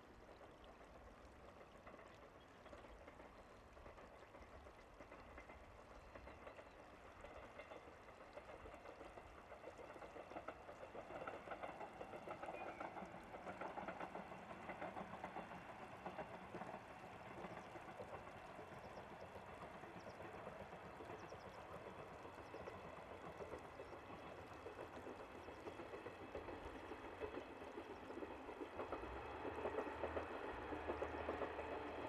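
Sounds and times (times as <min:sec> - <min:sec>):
trickling water: 0:00.0 - 0:32.0.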